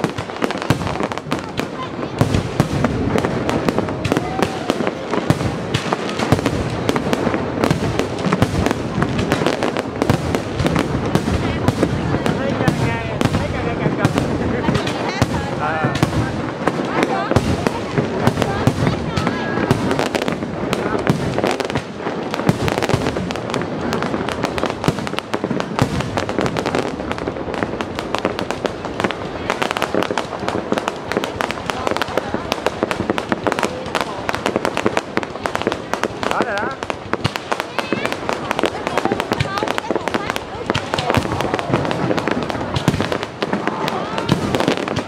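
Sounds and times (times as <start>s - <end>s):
fireworks bang: 0.0s - 45.0s
fireworks popping and crackling: 0.0s - 45.0s.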